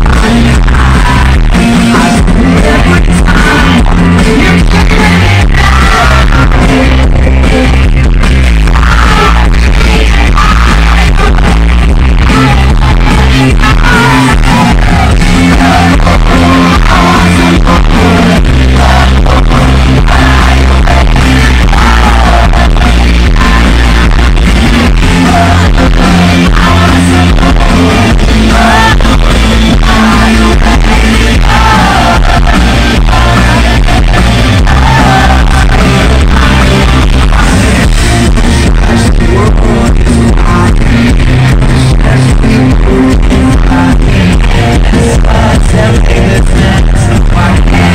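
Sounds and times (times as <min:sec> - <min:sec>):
bass guitar: 0:00.0 - 0:47.9
man singing lead vocal: 0:00.0 - 0:47.9
pop-rock band playing: 0:00.0 - 0:47.9.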